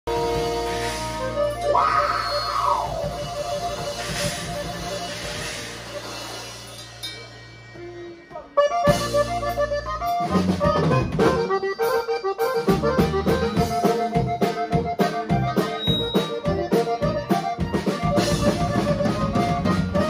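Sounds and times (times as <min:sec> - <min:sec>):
accordion: 0:00.1 - 0:06.7, 0:07.7 - 0:20.0
drum kit: 0:00.1 - 0:20.0
electric bass: 0:00.1 - 0:20.0.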